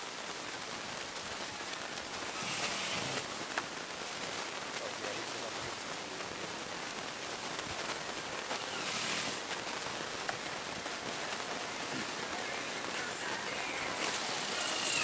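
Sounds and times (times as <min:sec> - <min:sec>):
steady noise hiss: 0:00.0 - 0:15.0.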